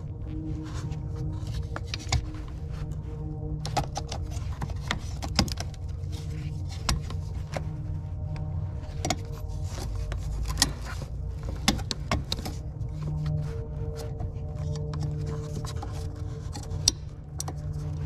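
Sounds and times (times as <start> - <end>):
steady low hum: 0.0 - 18.0
clicks and knocks of engine parts: 3.4 - 18.0.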